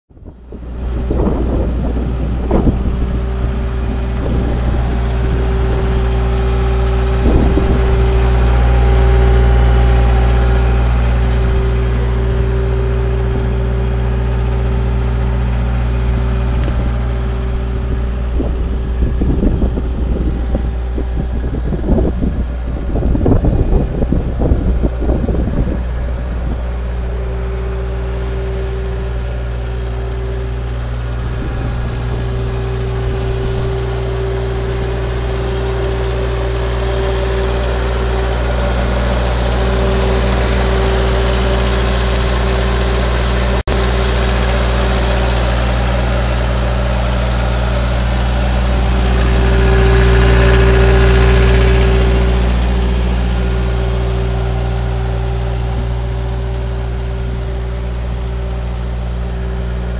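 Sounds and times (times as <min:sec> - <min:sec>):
diesel engine idling: 0:00.1 - 0:59.9.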